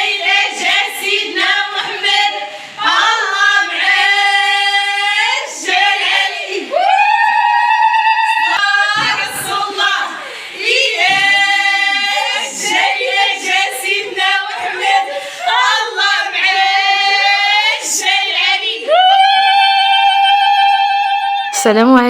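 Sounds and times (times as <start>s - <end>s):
women singing together: 0.0s - 22.0s.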